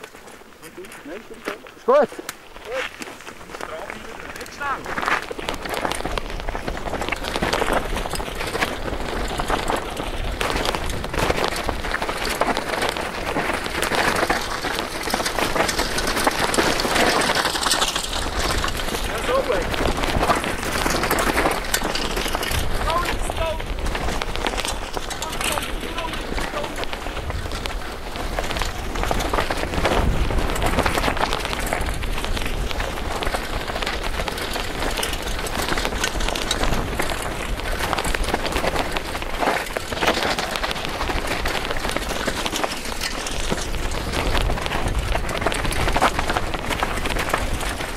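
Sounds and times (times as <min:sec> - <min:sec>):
bike tyres rattling on stones: 0:00.0 - 0:47.9.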